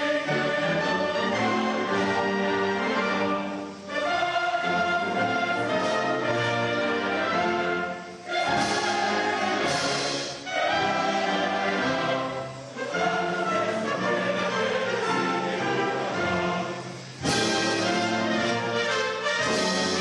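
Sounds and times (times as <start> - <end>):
orchestra and choir performing: 0.0 - 20.0.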